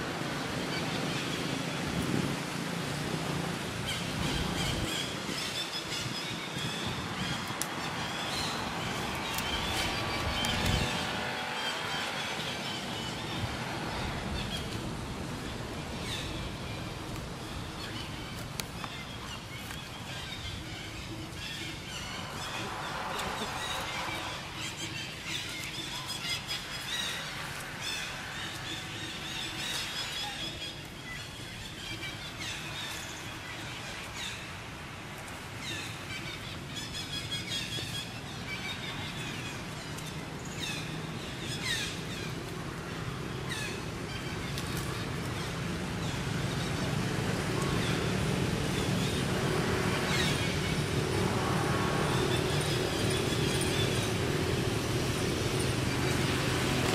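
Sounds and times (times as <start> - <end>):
birds chirping: 3.5 - 56.9.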